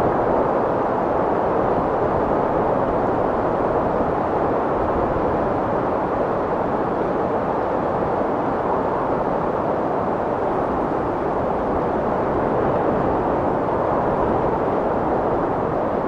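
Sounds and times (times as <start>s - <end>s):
strong wind blowing: 0.0s - 16.0s.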